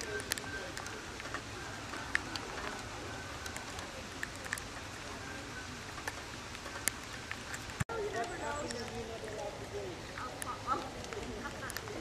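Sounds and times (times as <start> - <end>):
light rain hissing: 0.0 - 12.0
raindrops ticking: 0.0 - 12.0.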